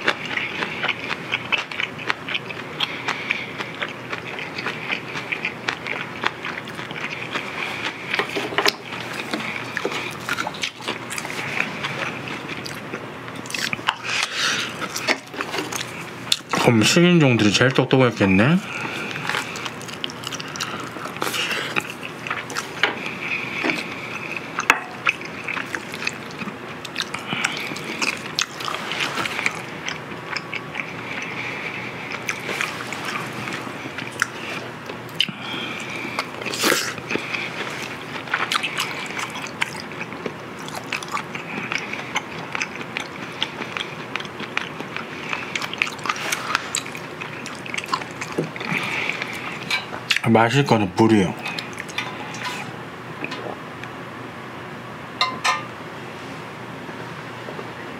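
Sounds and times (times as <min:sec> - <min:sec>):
chewing and wet mouth sounds: 0:00.0 - 0:50.3, 0:51.4 - 0:53.6.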